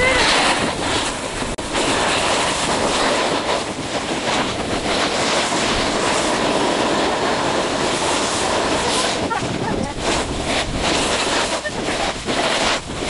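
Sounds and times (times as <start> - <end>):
snowboard scraping over snow: 0.0 - 13.0
wind on microphone: 0.0 - 13.0.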